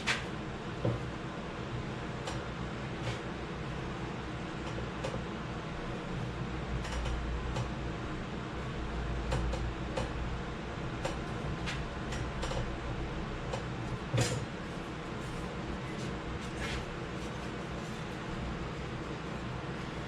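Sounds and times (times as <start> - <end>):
low shop hum: 0.0 - 20.0.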